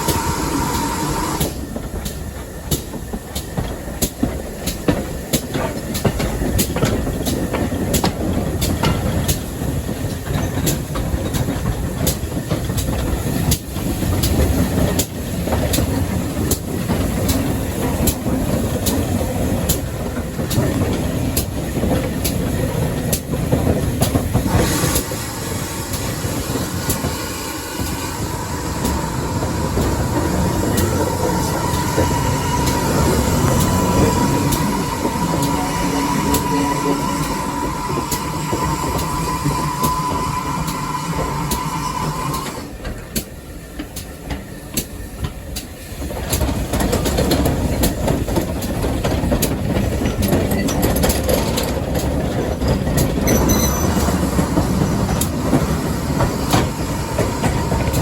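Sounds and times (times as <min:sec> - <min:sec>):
train rumble: 0:00.0 - 0:58.0
wheels clacking over rail joints: 0:01.4 - 0:58.0.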